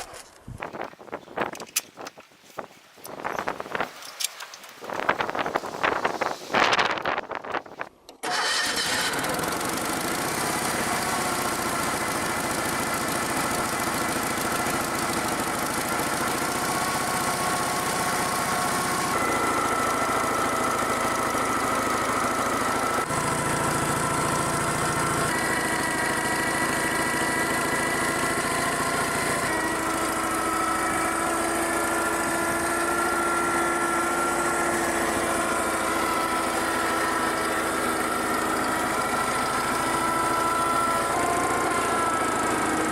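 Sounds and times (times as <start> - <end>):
wood splitter engine running: 8.1 - 42.9.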